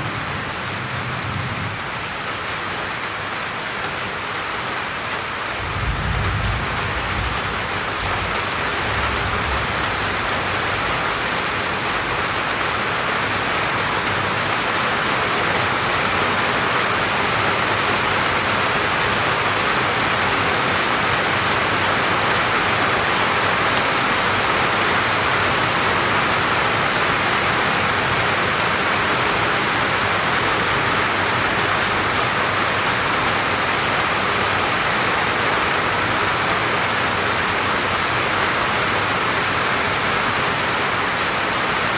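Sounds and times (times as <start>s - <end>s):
rain falling on leaves: 0.0s - 41.9s.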